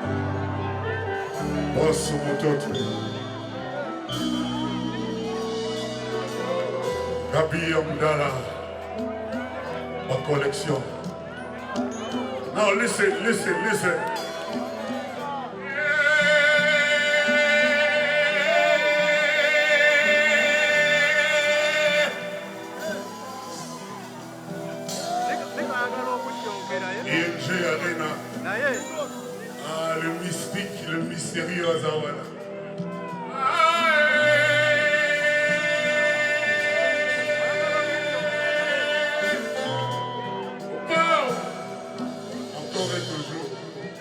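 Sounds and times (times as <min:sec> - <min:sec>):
person singing long high note: 0:00.0 - 0:31.7, 0:32.4 - 0:44.0
live rumba band music: 0:00.0 - 0:44.0.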